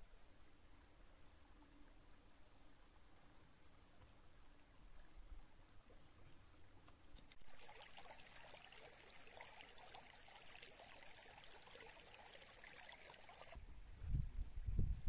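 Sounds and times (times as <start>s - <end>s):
small stream trickling: 0.4s - 13.7s.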